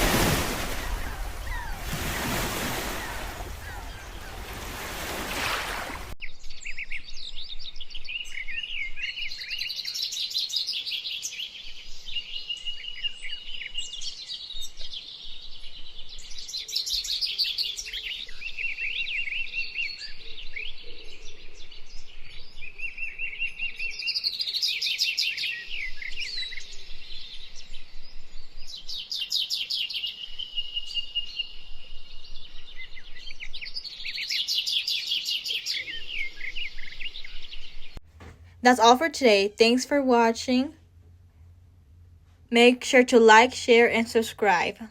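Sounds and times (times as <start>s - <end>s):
songbirds chirping and trilling: 0.0s - 38.0s.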